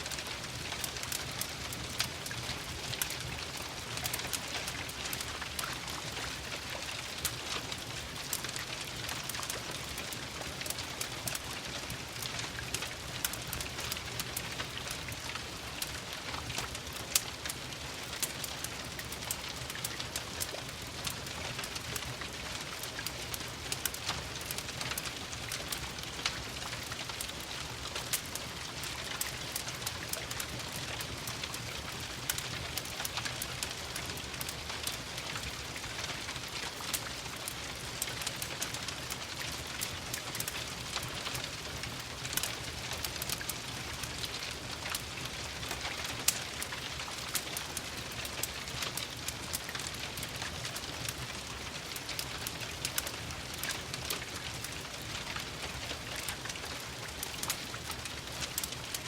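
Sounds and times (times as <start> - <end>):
steady rain falling: 0.0 - 59.0
wood fire popping and crackling: 0.1 - 59.0.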